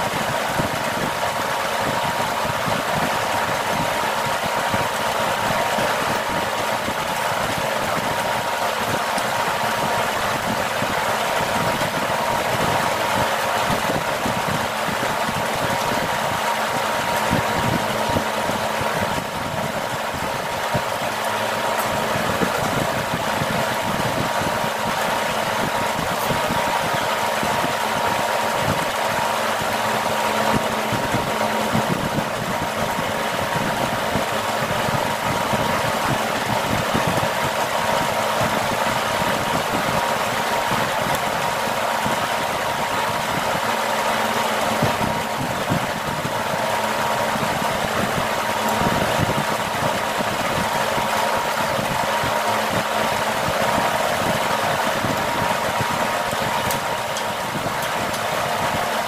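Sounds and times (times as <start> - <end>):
motor droning with whine: 0.0 - 59.0.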